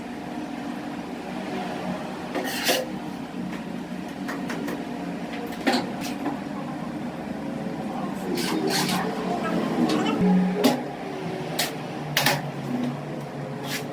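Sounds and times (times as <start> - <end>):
mechanical hum: 0.0 - 13.9.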